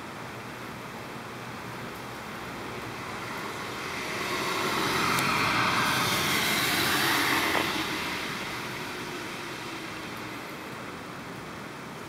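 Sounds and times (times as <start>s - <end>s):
passing vehicle: 1.7s - 11.9s.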